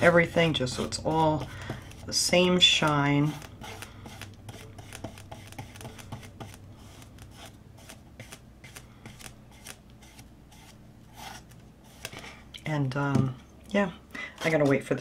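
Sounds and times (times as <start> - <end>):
scratchy paintbrush strokes: 0.0 - 12.1.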